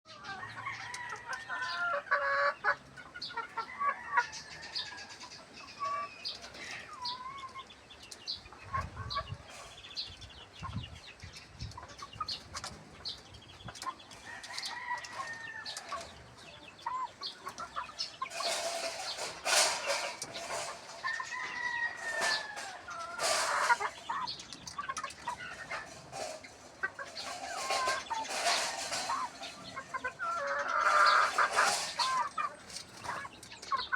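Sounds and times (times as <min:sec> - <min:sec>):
chickens clucking and calling: 0:00.1 - 0:33.9.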